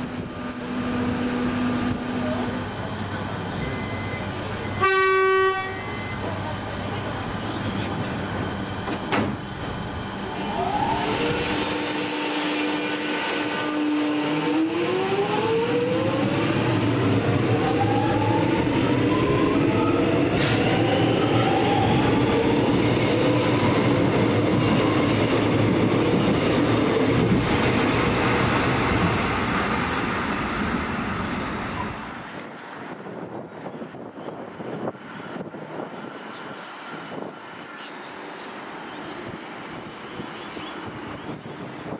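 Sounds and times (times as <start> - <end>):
wheel and rail rumble: 0.0 - 41.9.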